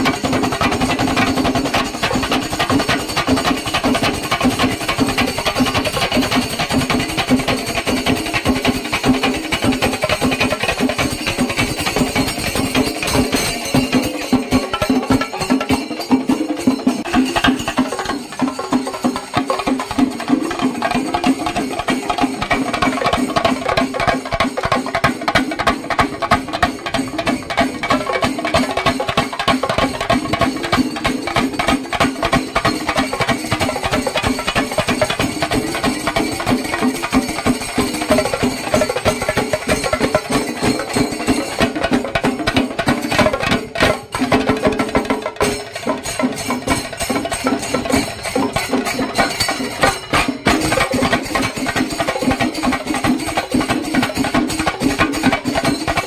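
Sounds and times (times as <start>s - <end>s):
drums beaten in fast rhythm: 0.0s - 56.0s
hand cymbals: 0.0s - 56.0s.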